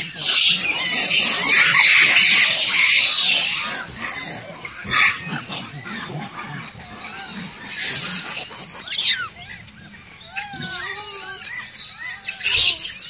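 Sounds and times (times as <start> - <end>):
monkeys grunting: 0.0 - 13.0
monkeys screeching: 0.0 - 13.0.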